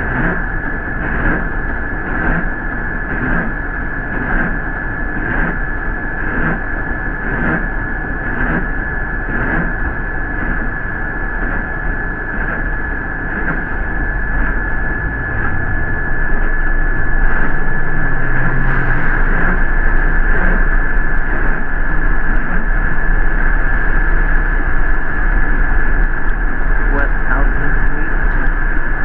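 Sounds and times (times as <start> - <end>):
bus engine and road rumble: 0.0 - 29.0
high-pitched whine: 0.0 - 29.0.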